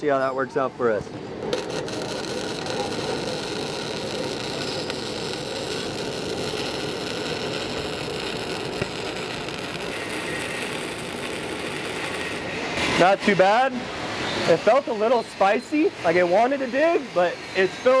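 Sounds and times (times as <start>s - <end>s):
welding arc sizzling: 1.2s - 18.0s.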